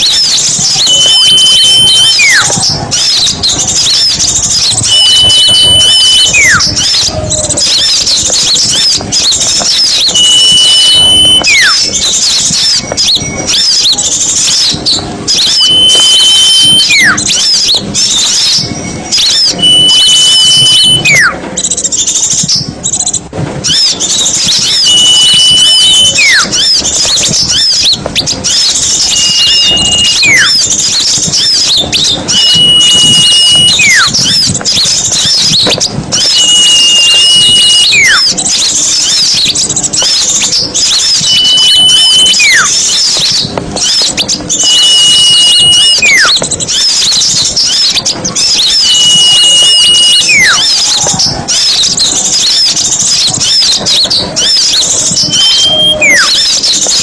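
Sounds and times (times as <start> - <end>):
high falling whistle: 0.0 - 21.4, 23.6 - 39.4, 40.1 - 56.7
small songbirds chirping: 0.0 - 57.0.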